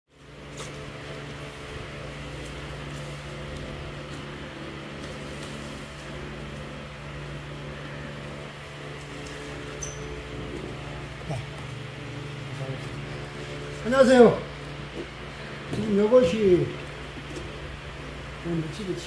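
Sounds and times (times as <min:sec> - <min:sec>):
low mechanical hum: 0:00.1 - 0:19.0.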